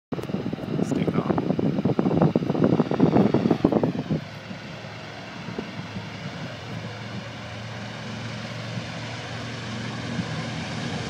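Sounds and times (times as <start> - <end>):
distant propeller aircraft drone: 0.1 - 11.0.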